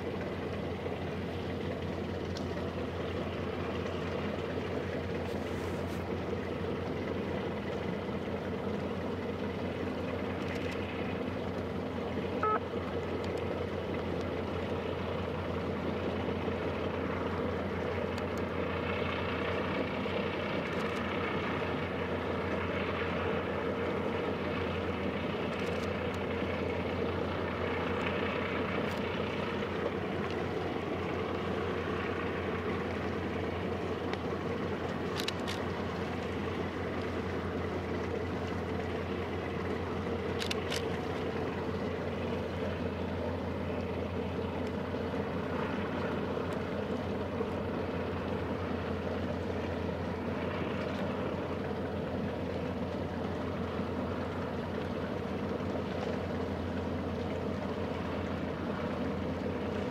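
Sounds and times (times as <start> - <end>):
ship engines droning: 0.0 - 59.9.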